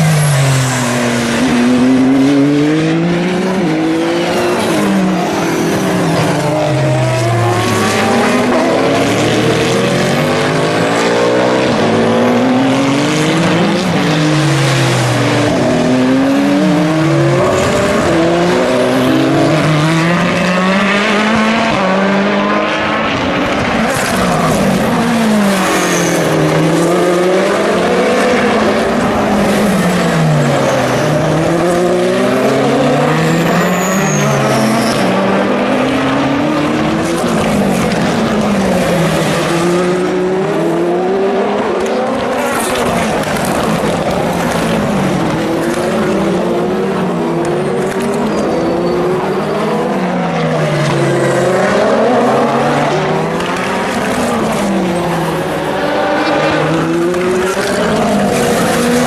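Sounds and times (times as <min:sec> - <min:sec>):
race cars braking and accelerating: 0:00.0 - 0:59.0.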